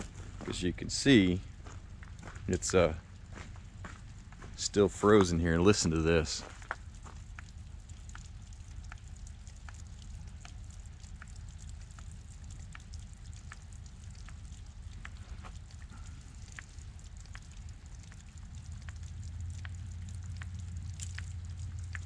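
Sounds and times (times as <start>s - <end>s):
low steady rumble: 0.0s - 22.0s
water drops plinking: 3.8s - 22.0s.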